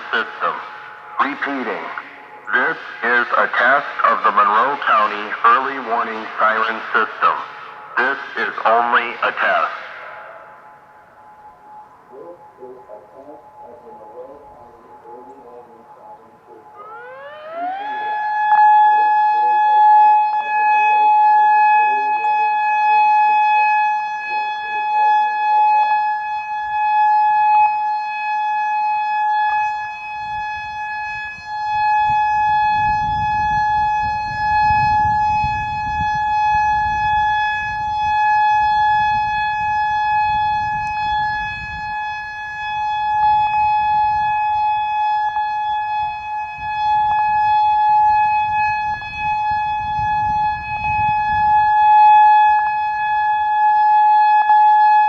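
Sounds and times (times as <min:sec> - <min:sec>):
warning siren steady tone: 0:00.0 - 0:55.0.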